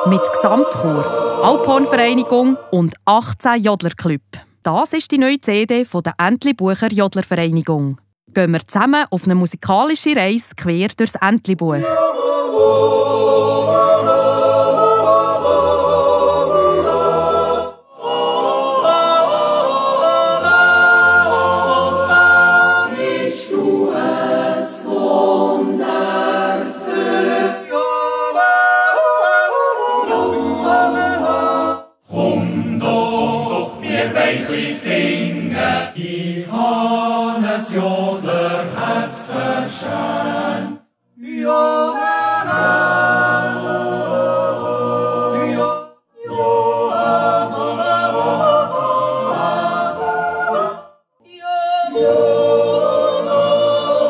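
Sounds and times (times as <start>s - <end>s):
choir yodeling a cappella: 0.0s - 2.8s, 11.7s - 54.0s.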